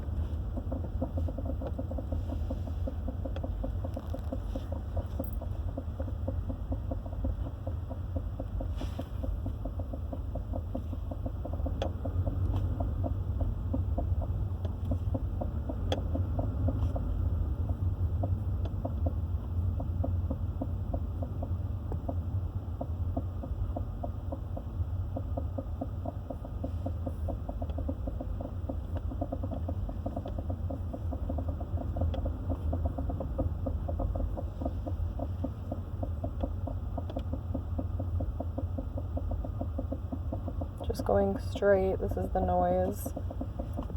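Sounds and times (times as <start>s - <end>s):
fast even knocking: 0.0s - 43.9s
vehicle low hum: 0.0s - 43.9s.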